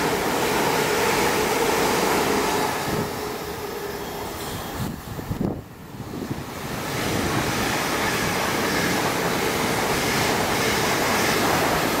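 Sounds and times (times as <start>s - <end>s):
train rushing past: 0.0s - 12.0s.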